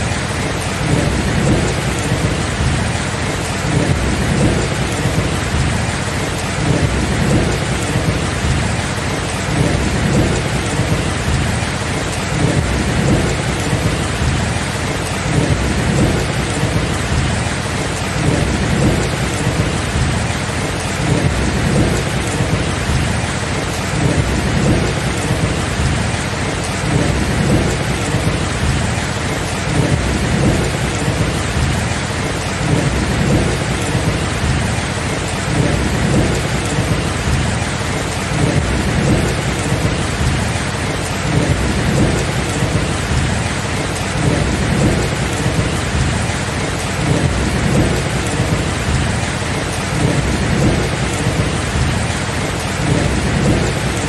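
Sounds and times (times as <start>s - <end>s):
heavy rain: 0.0s - 54.0s
low rumbling thunder: 0.0s - 54.0s.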